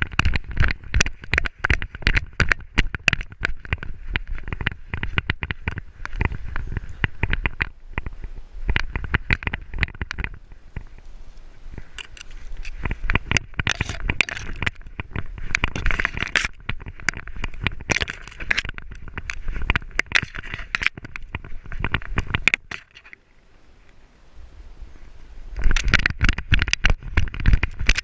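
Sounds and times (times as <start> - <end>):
grass scraping and crackling: 0.0 - 28.0.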